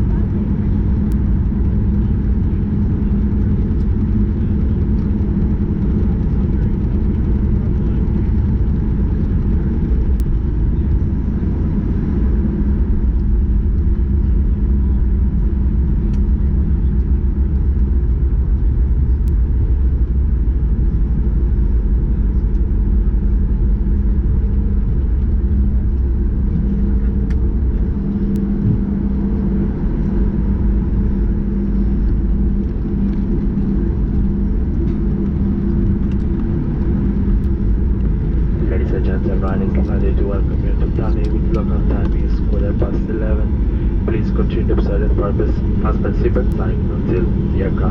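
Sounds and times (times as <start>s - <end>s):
aircraft cabin rumble: 0.0s - 47.9s
faint steady hum: 0.0s - 47.9s.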